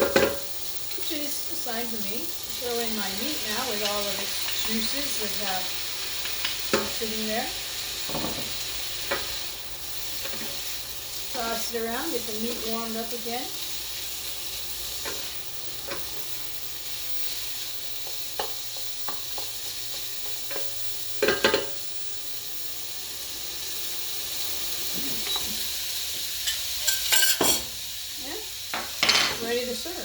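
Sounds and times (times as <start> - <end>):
food sizzling in hot pan: 0.0 - 30.0.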